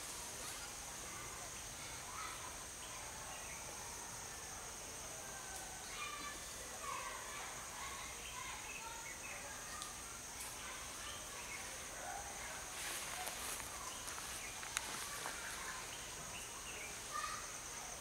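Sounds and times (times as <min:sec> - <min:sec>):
rustle: 0:00.0 - 0:18.0.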